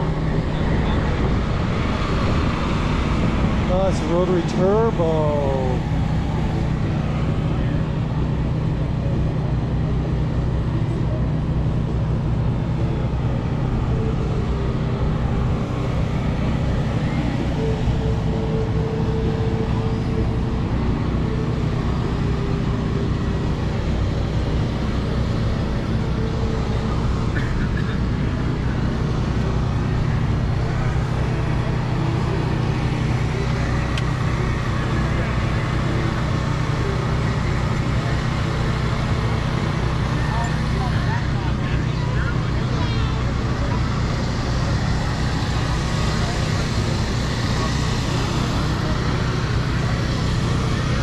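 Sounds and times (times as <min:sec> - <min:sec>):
engine drone: 0:00.0 - 0:51.0.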